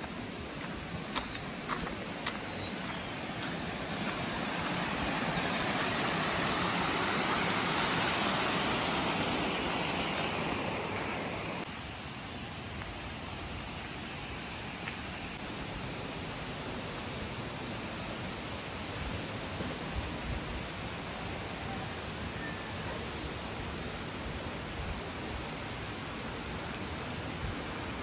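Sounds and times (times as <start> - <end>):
rushing mountain stream: 0.0 - 28.0.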